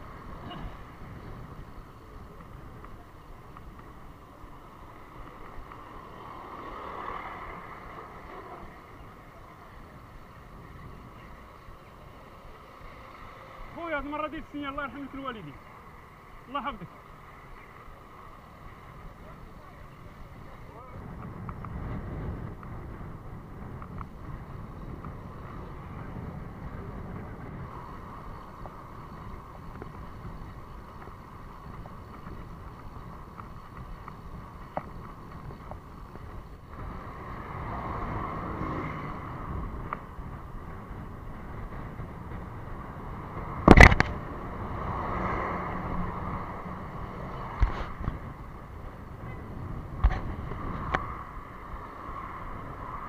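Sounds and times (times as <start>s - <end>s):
wind rushing over microphone: 0.0s - 15.5s, 17.7s - 53.0s
road noise: 0.0s - 53.0s.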